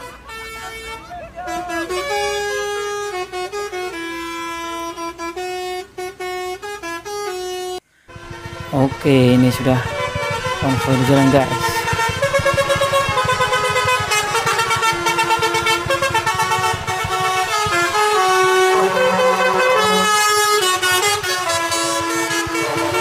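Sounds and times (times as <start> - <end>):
low horn note: 0.0 - 23.0
musical air horns playing tunes: 0.0 - 23.0.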